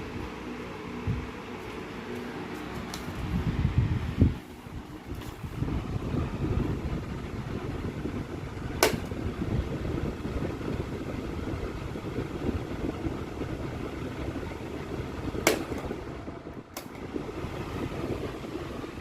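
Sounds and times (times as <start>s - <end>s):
air buffeting microphone: 0.0s - 19.0s
table fan running: 0.0s - 19.0s.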